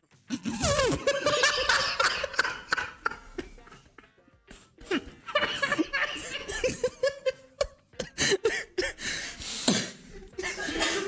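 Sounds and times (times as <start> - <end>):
people chuckling and laughing: 0.3 - 9.2, 9.8 - 11.0.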